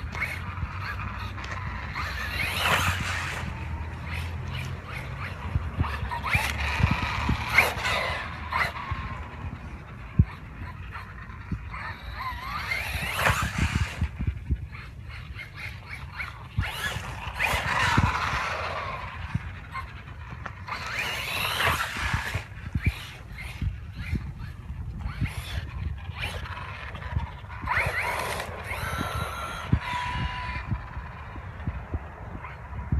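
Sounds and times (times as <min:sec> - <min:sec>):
electric motor whining: 0:00.0 - 0:32.9
toy truck bouncing on ground: 0:00.0 - 0:32.9.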